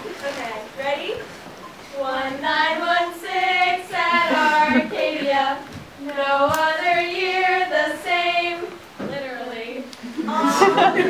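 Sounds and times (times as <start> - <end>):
girls singing unaccompanied: 0.0 - 11.0.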